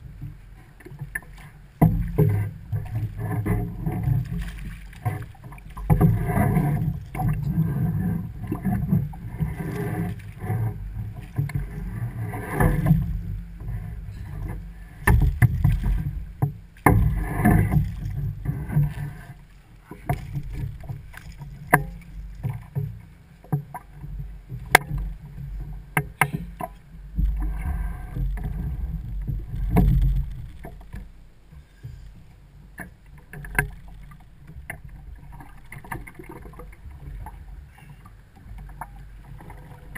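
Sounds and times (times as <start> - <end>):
knocks and clicks against hull: 0.0 - 39.9
water sloshing: 0.0 - 39.9
wind: 0.0 - 39.9.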